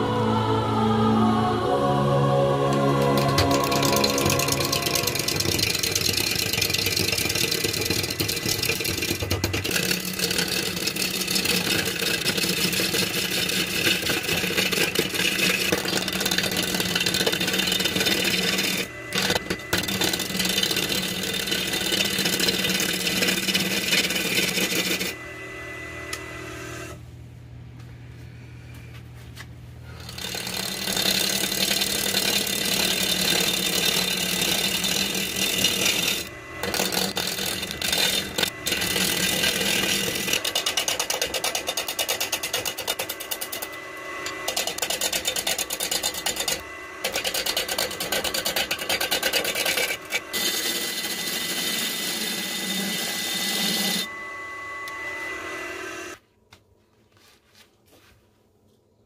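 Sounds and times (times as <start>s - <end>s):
lathe motor hum: 0.0s - 27.1s, 29.9s - 56.2s
gouge scraping spinning wood: 2.7s - 25.2s, 29.9s - 56.2s.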